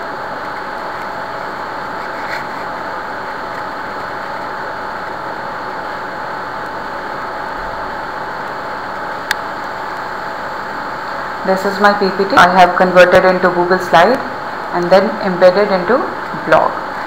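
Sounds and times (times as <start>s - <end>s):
recording hum and hiss: 0.0s - 17.0s.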